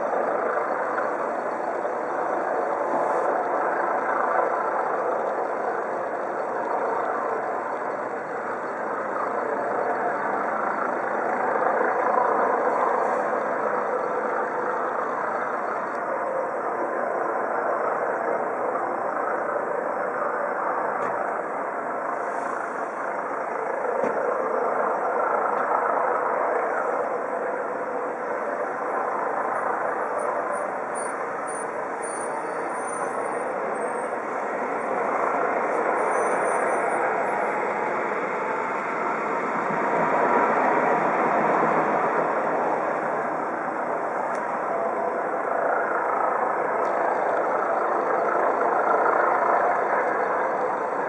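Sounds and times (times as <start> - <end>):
helicopter rotor and turbine: 0.0 - 51.0.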